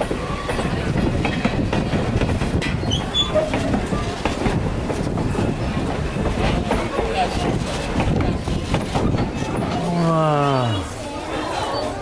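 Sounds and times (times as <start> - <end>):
railway carriage rumbling: 0.0 - 12.0.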